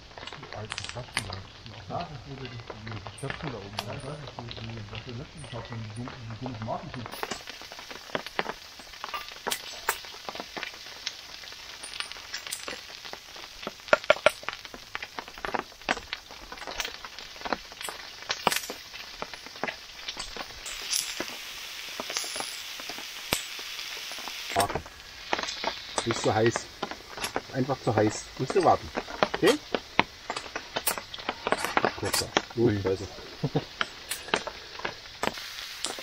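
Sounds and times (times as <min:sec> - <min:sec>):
potatoes sizzling in a pan: 0:00.0 - 0:36.0.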